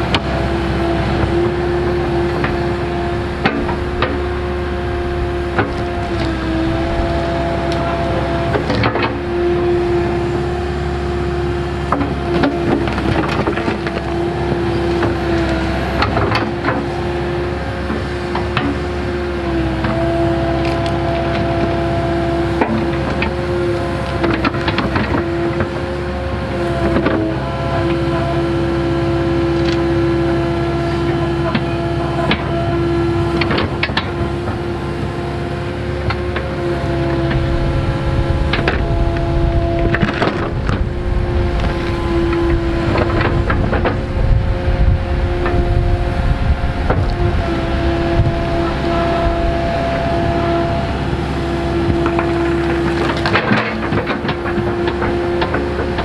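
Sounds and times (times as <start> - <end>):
excavator diesel engine whining: 0.0 - 56.0.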